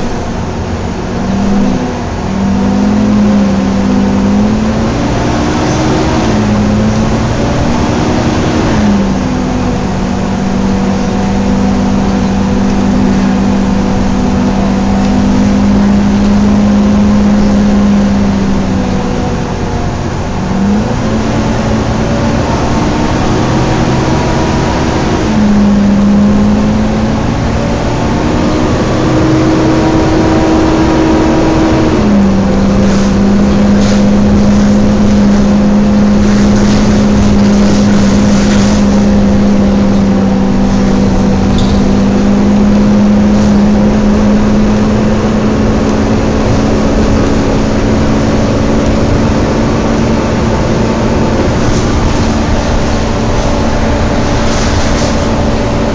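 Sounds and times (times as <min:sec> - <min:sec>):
bus engine and cooling fan droning: 0:00.0 - 0:55.9
road noise: 0:00.0 - 0:55.9.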